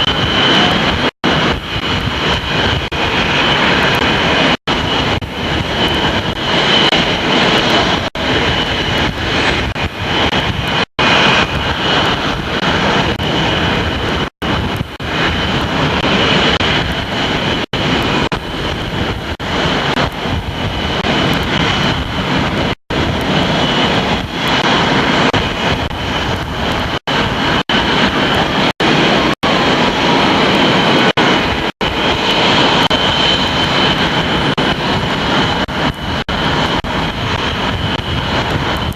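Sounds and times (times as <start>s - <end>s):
aircraft engine noise: 0.0s - 38.9s
high whine: 0.0s - 38.9s.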